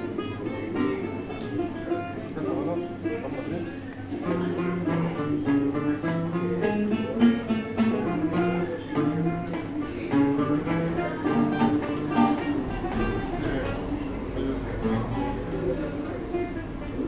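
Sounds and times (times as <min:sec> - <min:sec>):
acoustic guitar playing: 0:00.0 - 0:17.0
lute playing: 0:00.0 - 0:17.0.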